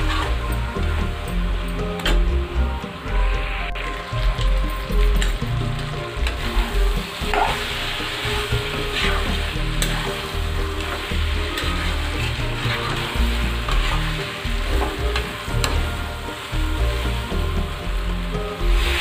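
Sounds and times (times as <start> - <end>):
chicken sizzling in a pan: 0.0 - 2.1, 3.0 - 19.0
spatula scraping a pan: 0.0 - 2.3, 3.1 - 19.0.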